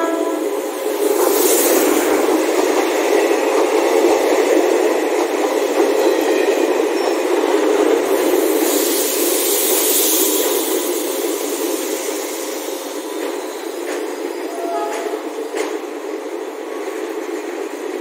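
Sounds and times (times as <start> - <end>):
train wheels rattling on rails: 0.0 - 18.0.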